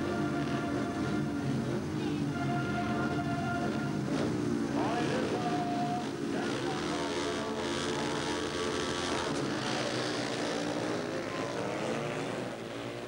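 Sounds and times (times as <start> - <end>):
motorcycles revving hard: 0.0 - 13.0.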